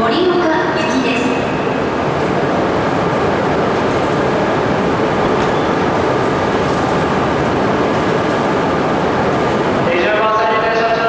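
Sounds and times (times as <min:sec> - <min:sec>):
train rushing past: 0:00.0 - 0:11.0.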